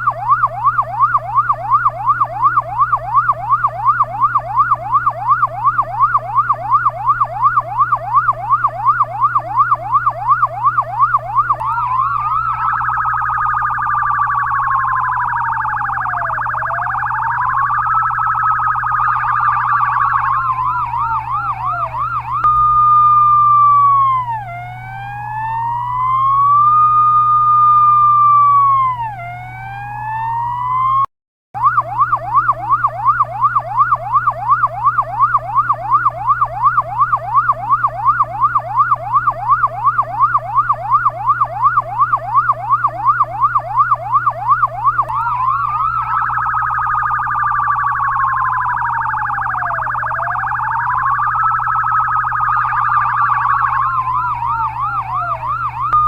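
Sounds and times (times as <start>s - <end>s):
steady low hum: 0.0s - 30.1s, 31.9s - 56.0s
ambulance siren yelping and wailing: 0.0s - 56.0s.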